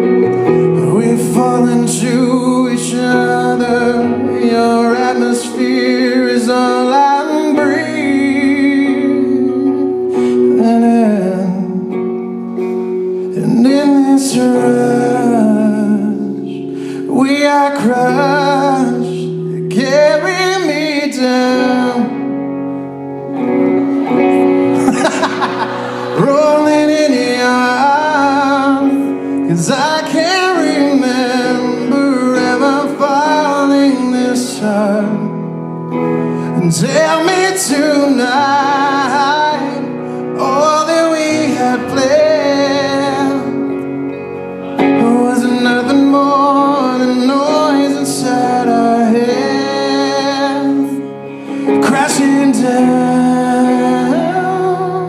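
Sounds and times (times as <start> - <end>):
man singing ballad with vibrato: 0.0 - 55.0.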